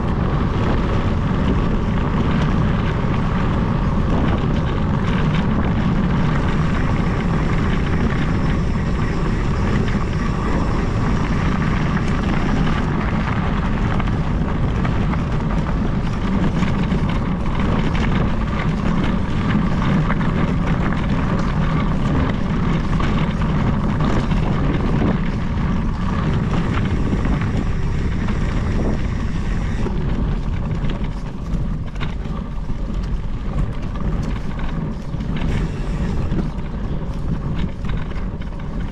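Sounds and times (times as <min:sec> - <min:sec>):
tyres crunching over gravel: 0:00.0 - 0:38.9
wind blowing across microphone: 0:00.0 - 0:38.9.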